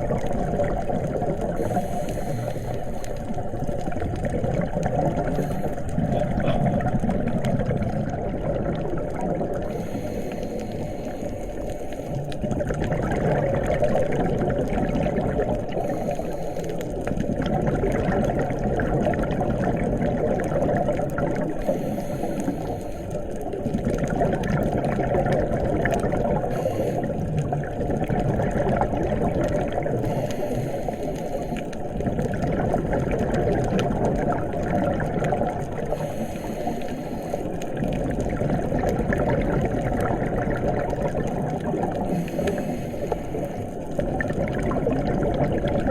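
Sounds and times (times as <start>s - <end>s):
exhaled bubbles hissing: 0.0s - 45.9s
underwater water rush: 0.0s - 45.9s.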